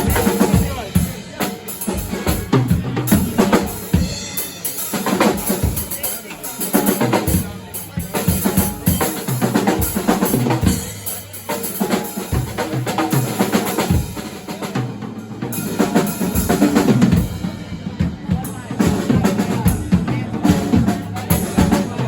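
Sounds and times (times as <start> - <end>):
drum kit playing a beat: 0.0 - 22.0
music: 0.0 - 22.0.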